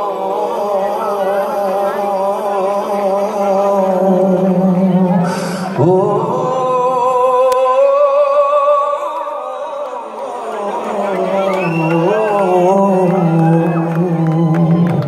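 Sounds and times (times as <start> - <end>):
man singing long vibrato note: 0.0 - 15.0.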